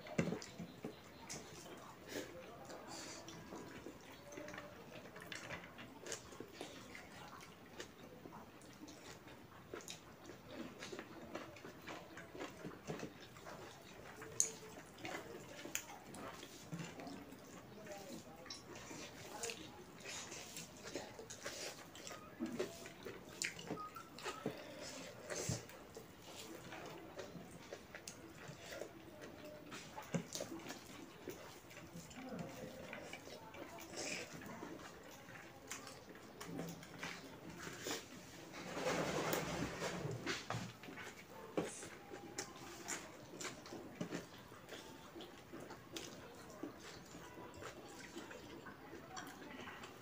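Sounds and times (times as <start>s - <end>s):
wet chewing and lip-smacking: 0.0s - 38.4s, 40.2s - 50.0s.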